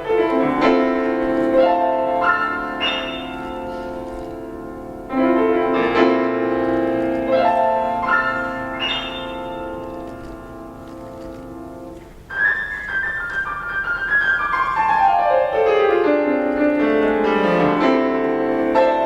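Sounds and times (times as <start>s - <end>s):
solo piano chords: 0.0s - 19.0s.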